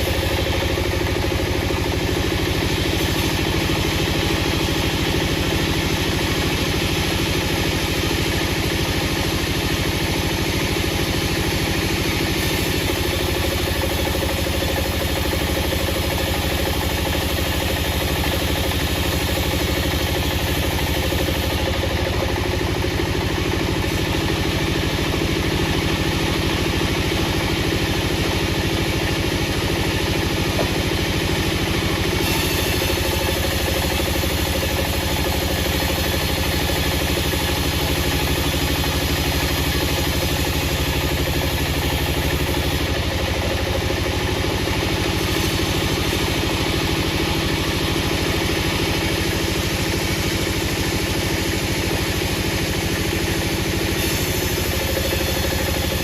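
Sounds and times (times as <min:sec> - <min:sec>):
wood-processing machinery humming: 0:00.0 - 0:56.0.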